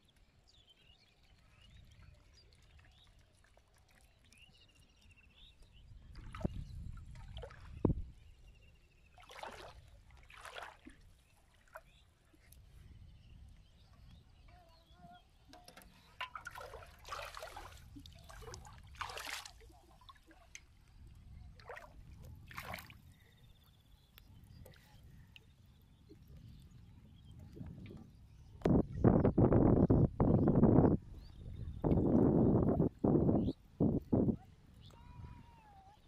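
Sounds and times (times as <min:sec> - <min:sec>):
water splashing and trickling: 0:00.2 - 0:36.0.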